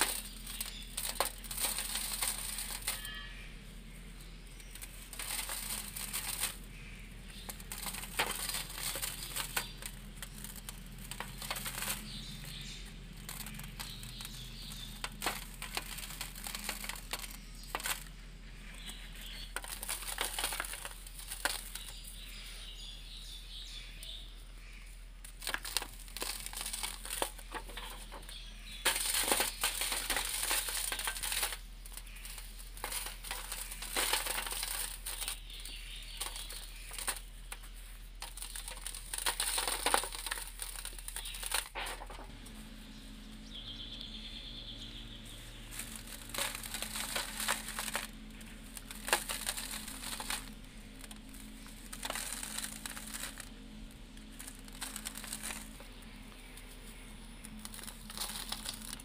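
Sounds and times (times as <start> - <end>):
hands crumbling dry cement mix: 0.0 - 22.7, 24.8 - 44.2, 45.1 - 59.0.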